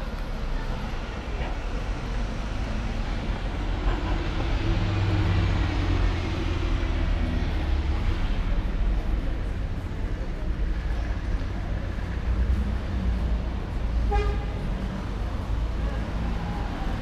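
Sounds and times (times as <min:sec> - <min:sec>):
bus engine humming: 0:00.0 - 0:17.0
street traffic noise: 0:00.0 - 0:17.0.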